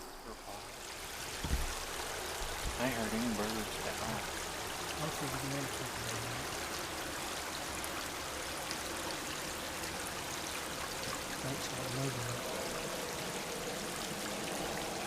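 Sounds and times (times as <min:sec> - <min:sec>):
low hums: 0:00.0 - 0:15.0.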